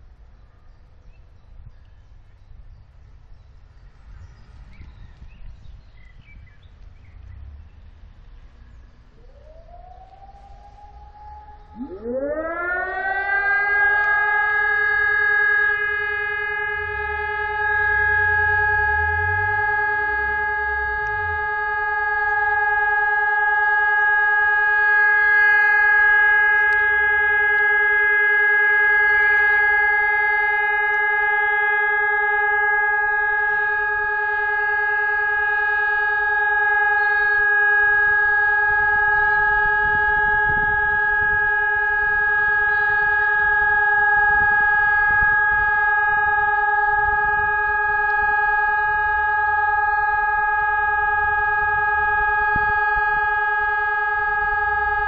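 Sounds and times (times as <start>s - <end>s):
siren steady tone: 2.5s - 55.0s.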